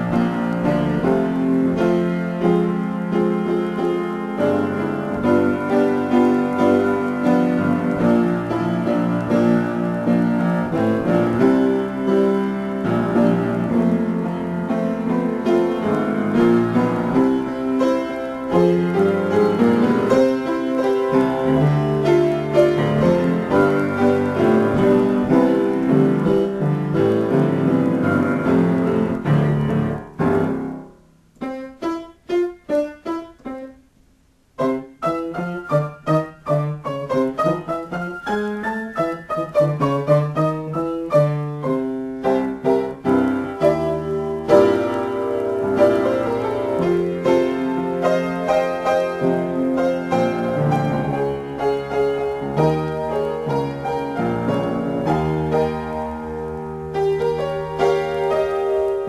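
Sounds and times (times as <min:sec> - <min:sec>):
solo piano: 0:00.0 - 0:59.0.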